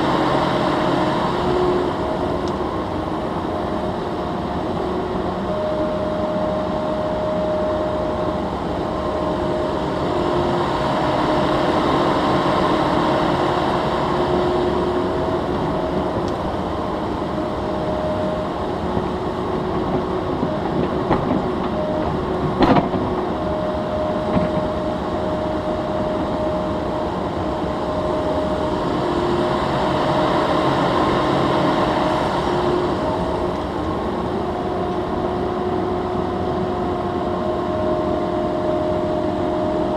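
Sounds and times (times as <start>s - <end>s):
diesel engine under load: 0.0s - 39.9s
hydraulics whining: 0.0s - 39.9s.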